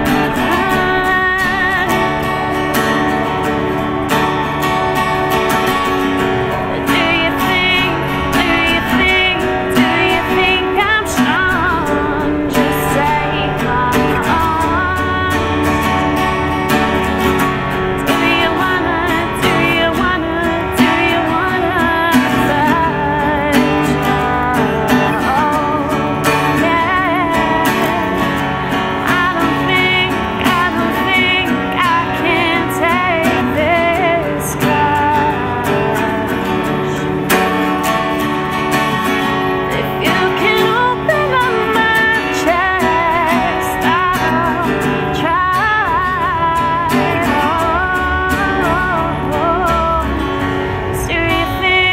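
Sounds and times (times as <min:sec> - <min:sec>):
acoustic guitar strumming: 0:00.0 - 0:51.9
woman singing: 0:00.0 - 0:51.9.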